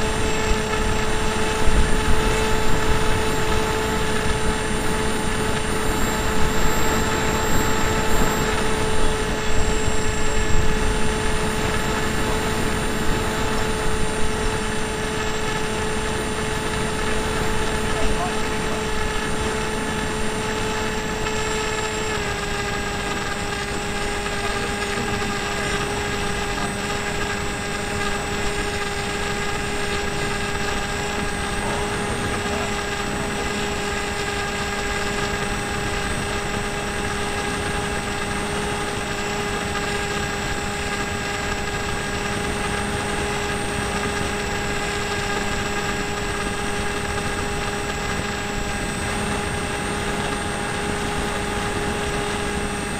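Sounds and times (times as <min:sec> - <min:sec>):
model plane motor whining: 0:00.0 - 0:52.9.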